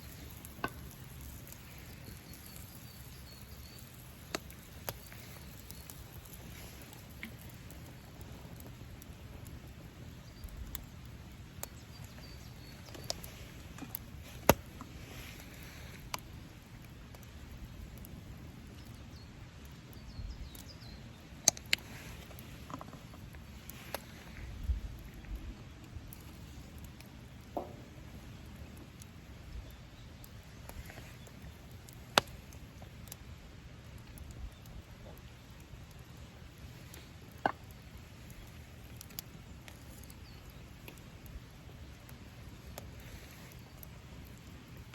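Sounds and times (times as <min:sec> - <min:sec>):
campfire crackling: 0:00.0 - 0:44.9
quiet outdoor hiss: 0:00.0 - 0:44.9
wood fire popping: 0:00.0 - 0:44.9.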